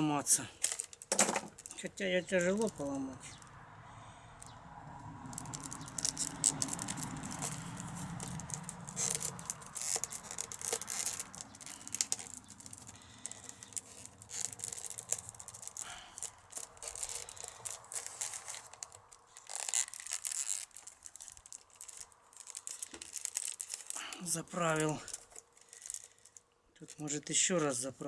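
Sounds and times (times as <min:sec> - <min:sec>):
wood strip rustling and scraping: 0:00.0 - 0:03.5, 0:05.2 - 0:28.0.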